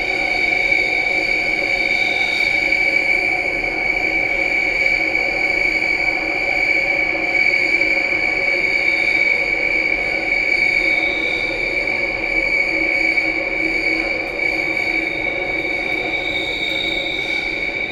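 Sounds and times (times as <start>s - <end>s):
train running inside carriage: 0.0s - 17.9s.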